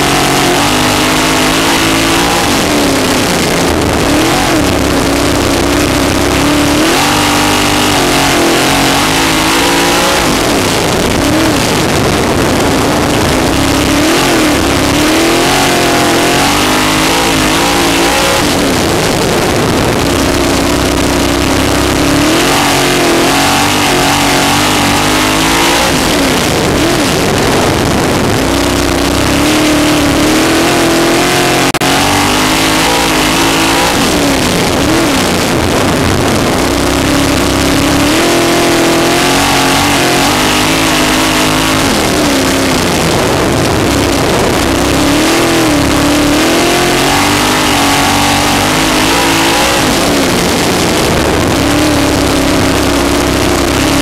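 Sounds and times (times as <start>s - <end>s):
loud rushing noise: 0.0s - 54.0s
racing engine at full speed: 0.0s - 54.0s.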